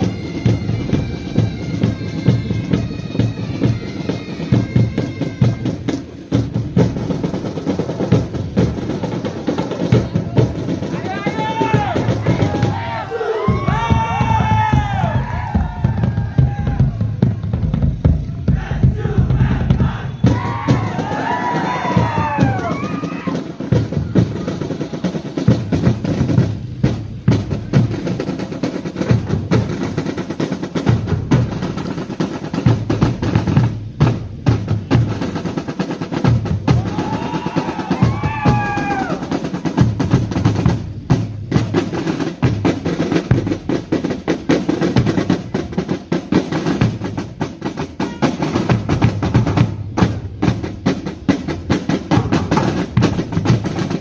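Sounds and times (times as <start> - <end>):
snare drums rolling: 0.0 - 54.0
tenor and bass drum beat: 0.0 - 54.0.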